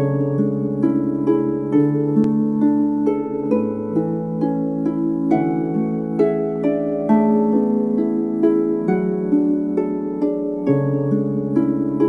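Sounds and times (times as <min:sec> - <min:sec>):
lyre melody: 0:00.0 - 0:12.0.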